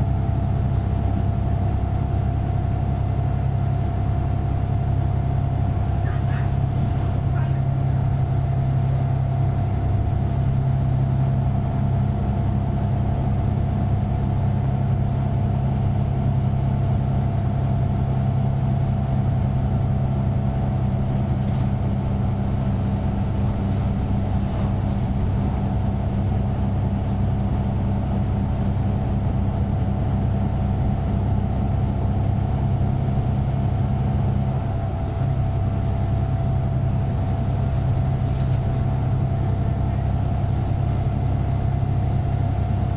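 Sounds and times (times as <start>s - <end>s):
bus diesel engine drone: 0.0s - 42.9s.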